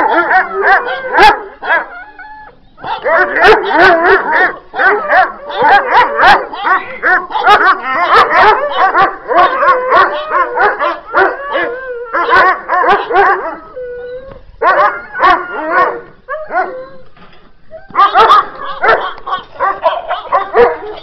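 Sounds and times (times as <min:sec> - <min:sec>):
dogs barking: 0:00.0 - 0:02.0, 0:02.8 - 0:13.8, 0:14.6 - 0:16.8, 0:17.9 - 0:21.0
dog howl: 0:00.0 - 0:17.1.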